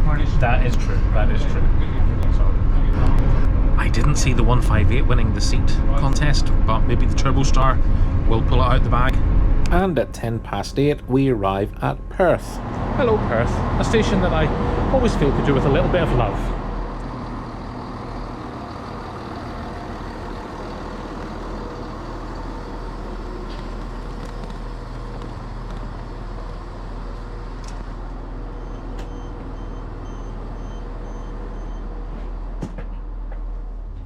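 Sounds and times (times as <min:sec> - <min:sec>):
diesel train engine rumbling: 0:00.0 - 0:34.0.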